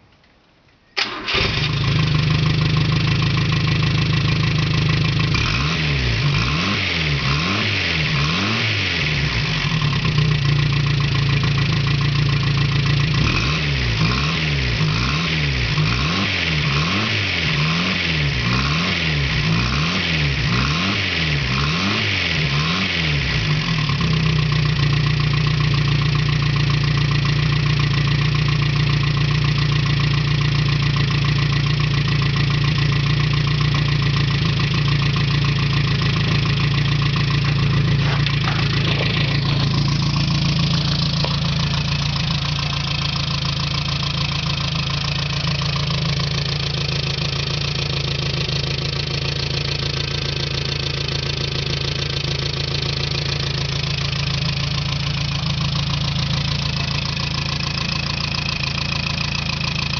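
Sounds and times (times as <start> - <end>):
car engine starting and revving: 1.0 - 27.2, 30.8 - 59.9.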